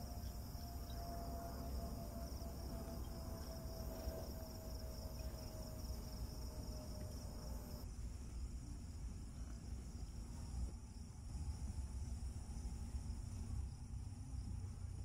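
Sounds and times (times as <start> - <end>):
crickets chirping: 0.0 - 15.0
faint steady hum: 0.0 - 15.0.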